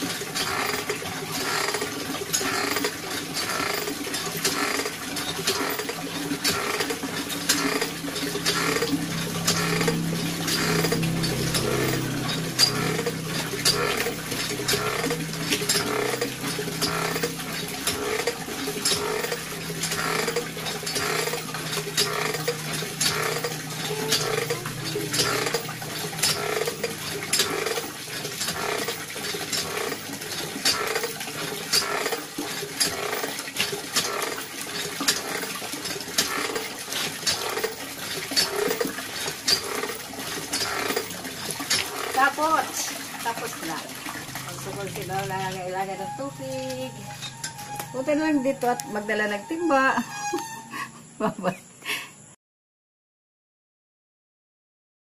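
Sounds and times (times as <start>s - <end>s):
water splashing into bucket: 0.0s - 49.0s
hand water pump clanking: 0.0s - 50.7s.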